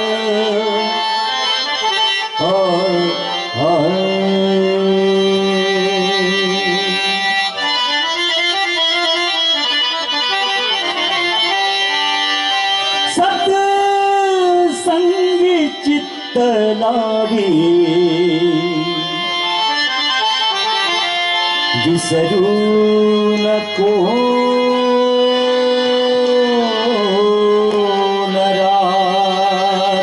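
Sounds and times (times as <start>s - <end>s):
harmonium melody: 0.0s - 30.0s
tabla: 0.0s - 30.0s.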